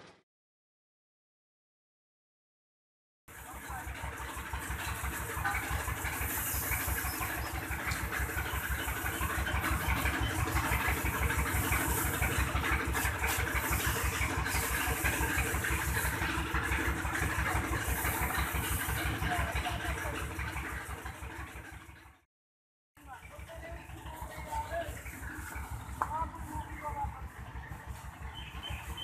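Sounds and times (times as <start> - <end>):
tractor diesel engine idling: 3.3 - 22.2, 23.0 - 29.0.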